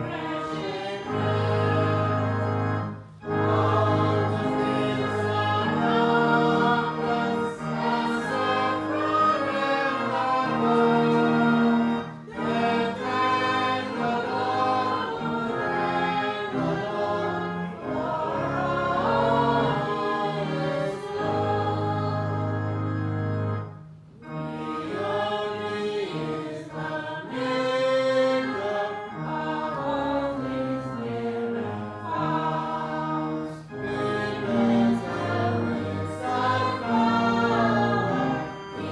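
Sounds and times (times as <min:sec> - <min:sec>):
congregation singing a hymn: 0:00.0 - 0:38.9
instrumental accompaniment: 0:00.0 - 0:38.9.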